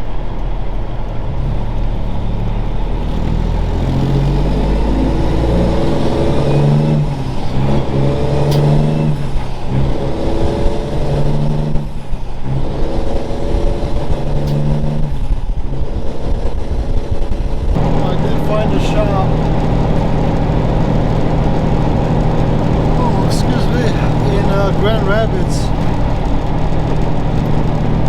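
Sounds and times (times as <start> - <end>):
truck diesel engine under load: 0.0 - 28.0.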